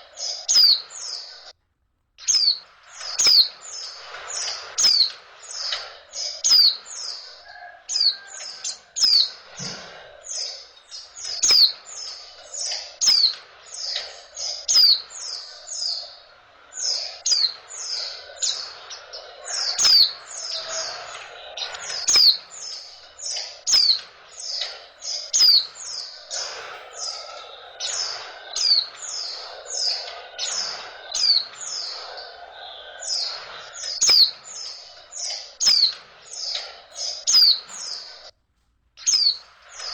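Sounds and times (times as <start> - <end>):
bird high falling chirps: 0.0 - 1.5, 2.2 - 38.3, 39.0 - 39.9.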